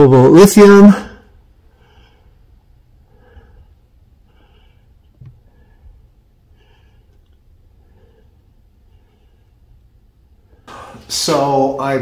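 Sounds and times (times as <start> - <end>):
low steady hum: 0.0 - 12.0
faint breathing: 1.0 - 11.1.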